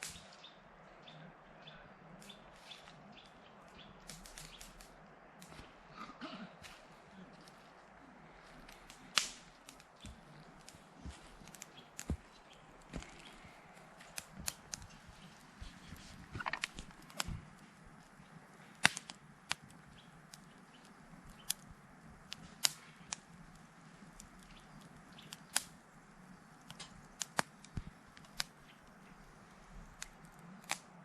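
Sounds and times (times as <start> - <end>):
faint steady hiss: 0.0 - 31.0
wood fire crackling and popping: 2.1 - 31.0.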